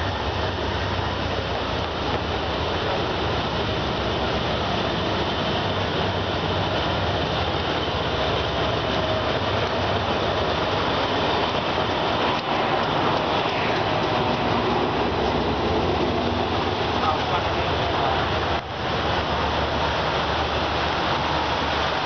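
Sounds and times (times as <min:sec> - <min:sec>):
diesel locomotive passing: 0:00.0 - 0:22.0
train carriages rolling on rails: 0:00.0 - 0:22.0.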